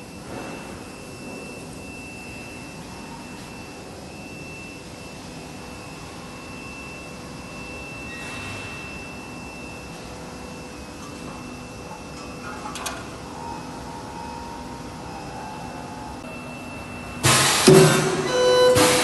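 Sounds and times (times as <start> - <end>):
welding machine hum with whine: 0.0 - 19.0.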